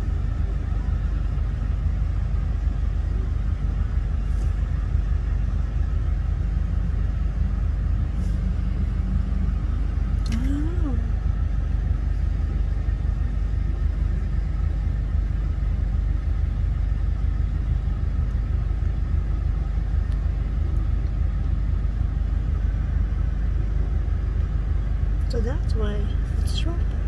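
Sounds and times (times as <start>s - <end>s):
highway traffic rumble: 0.0s - 27.0s.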